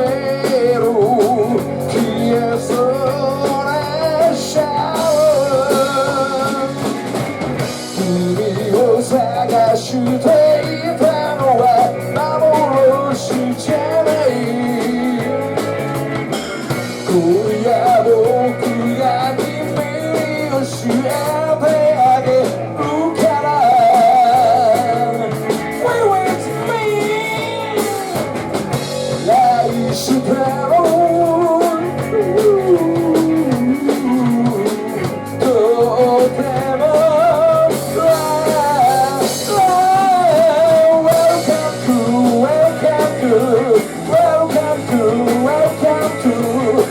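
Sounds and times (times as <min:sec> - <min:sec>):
person singing: 0:00.0 - 0:07.0, 0:07.8 - 0:15.8, 0:16.4 - 0:46.9
rock band playing live: 0:00.0 - 0:46.9.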